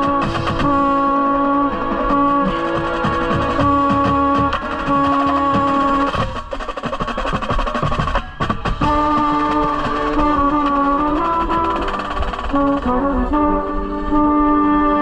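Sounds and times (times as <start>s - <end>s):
brass chords: 0.0s - 6.8s, 8.1s - 15.0s
fast percussion strikes: 0.0s - 13.4s.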